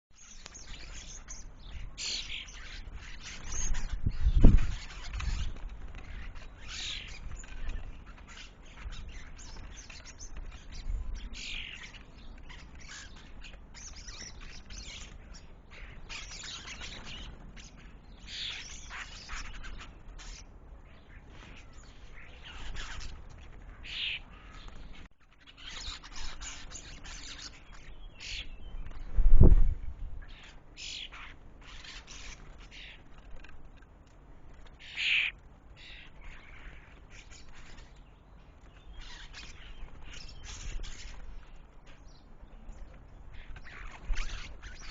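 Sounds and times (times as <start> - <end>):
birds chirping: 0.1 - 44.9.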